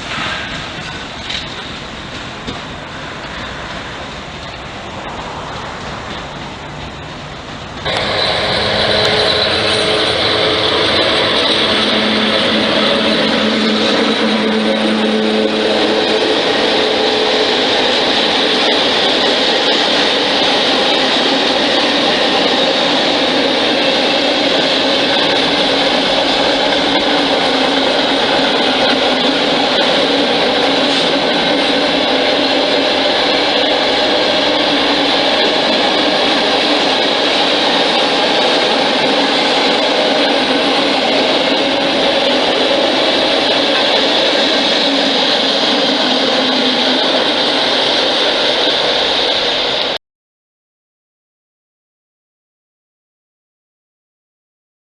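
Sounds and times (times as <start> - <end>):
train running: 0.0 - 50.0.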